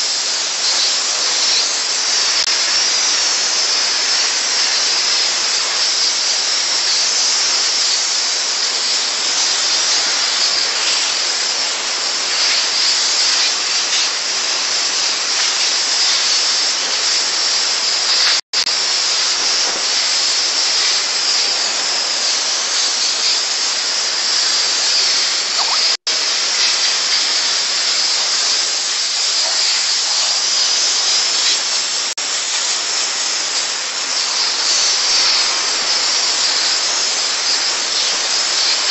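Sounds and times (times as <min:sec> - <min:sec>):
steam spray gun hissing: 0:00.0 - 0:38.9.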